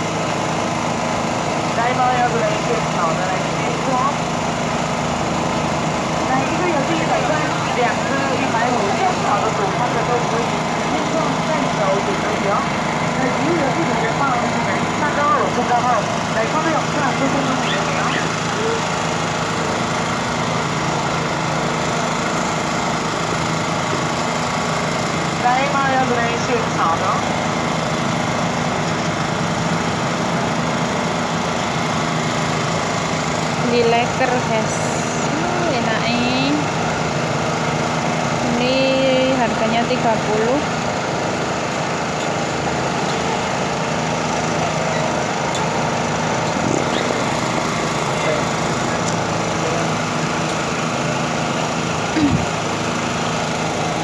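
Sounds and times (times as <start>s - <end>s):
small engine humming: 0.0s - 54.0s.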